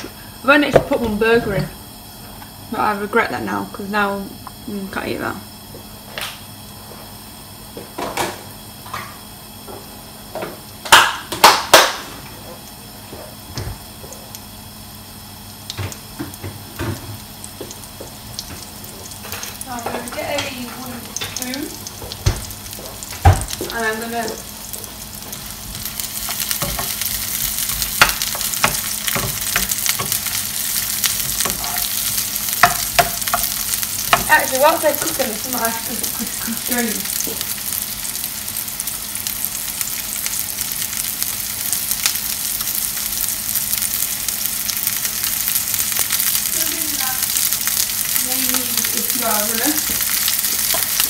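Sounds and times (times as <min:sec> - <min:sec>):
mushrooms sizzling in frying pan: 0:00.0 - 0:51.0.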